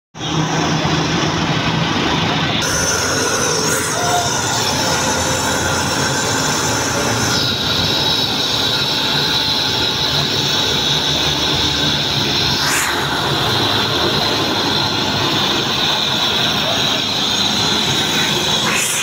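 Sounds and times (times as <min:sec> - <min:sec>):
angle grinder cutting concrete: 0:02.6 - 0:19.0.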